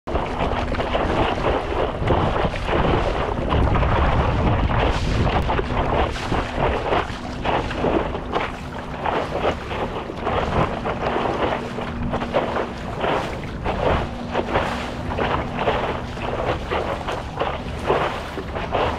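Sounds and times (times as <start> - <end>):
water splashing against board: 0.1 - 18.9
wind rumbling on microphone: 0.1 - 18.9.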